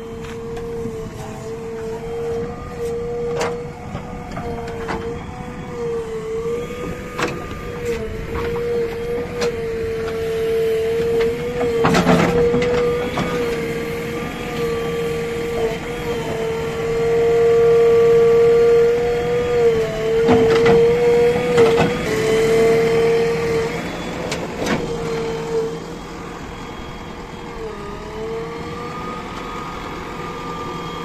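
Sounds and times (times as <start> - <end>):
backhoe engine and hydraulics whining: 0.0 - 31.0.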